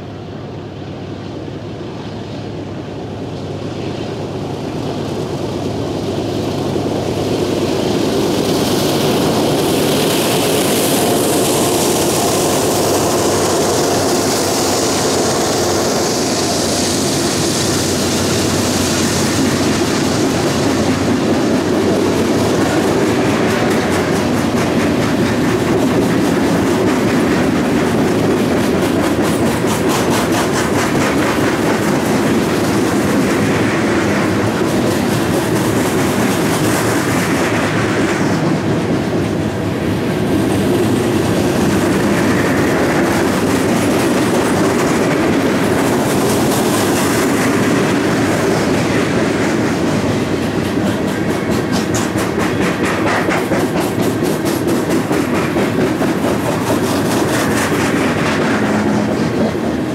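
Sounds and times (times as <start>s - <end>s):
continuous train rumble: 0.0s - 59.9s
train wheels clacking over rails: 3.8s - 59.9s.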